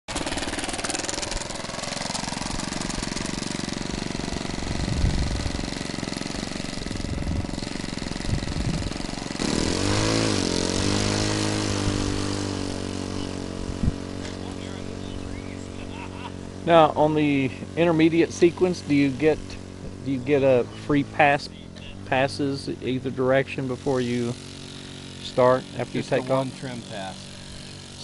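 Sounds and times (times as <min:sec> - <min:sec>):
model airplane engine running: 0:00.1 - 0:28.0.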